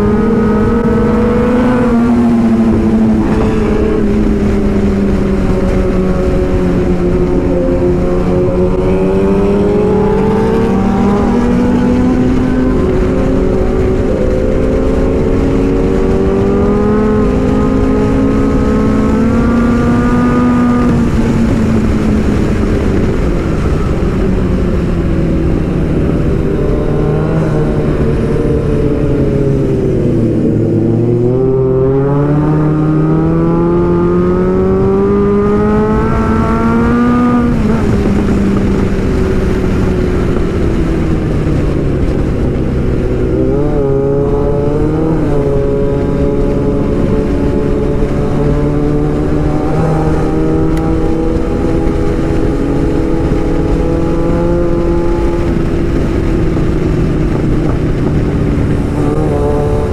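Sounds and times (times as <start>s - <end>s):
motorcycle engine accelerating: 0.0s - 59.9s
wind and road rush: 0.0s - 59.9s.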